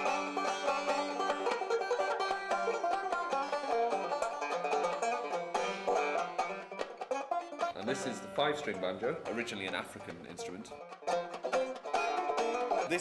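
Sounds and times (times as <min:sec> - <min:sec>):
banjo picked in fast run: 0:00.0 - 0:13.0.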